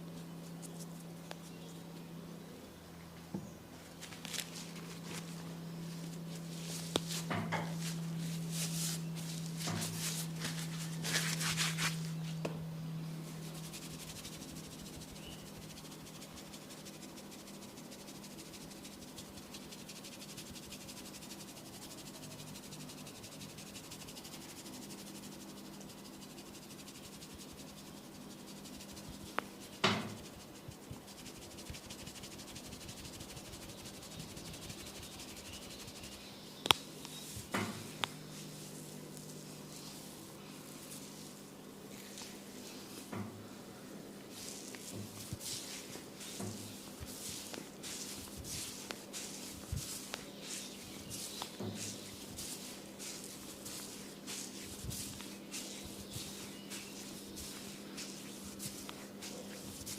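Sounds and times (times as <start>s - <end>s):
steady low hum: 0.0s - 59.9s
rubbing and scratching on skin and hair: 0.1s - 1.8s, 3.9s - 12.4s, 13.2s - 43.1s, 44.2s - 59.9s.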